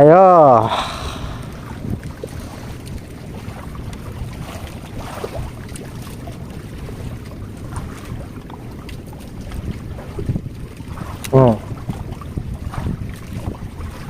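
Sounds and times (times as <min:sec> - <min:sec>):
waves sloshing: 0:00.0 - 0:14.0
wind buffeting microphone: 0:00.6 - 0:14.0.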